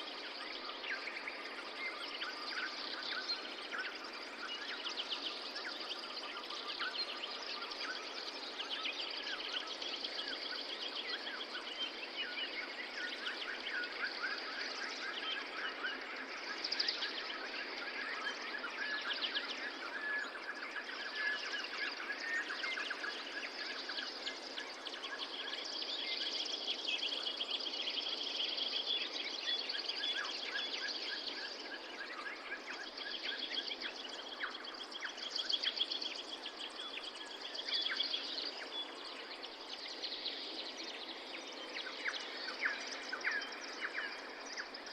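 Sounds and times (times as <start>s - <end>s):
songbirds trilling and chirping: 0.0s - 44.9s
steady background hiss: 0.0s - 44.9s.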